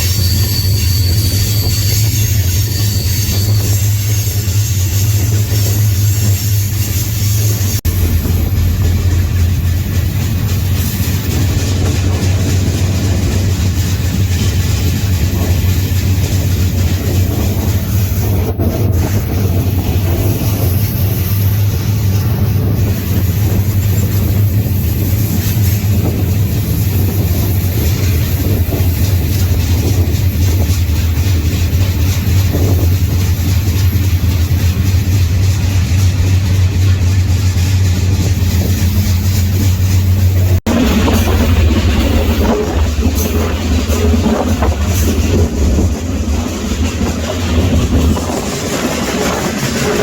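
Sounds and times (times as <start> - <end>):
rushing noise: 0.0 - 50.0
train low rumble: 0.0 - 50.0.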